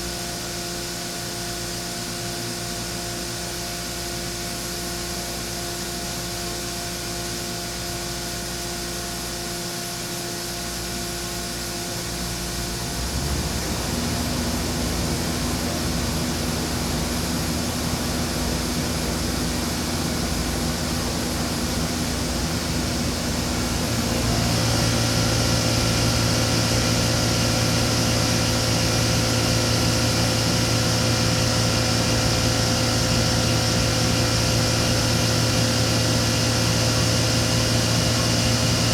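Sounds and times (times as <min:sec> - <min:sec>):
machining center hum and whine: 0:00.0 - 0:38.9.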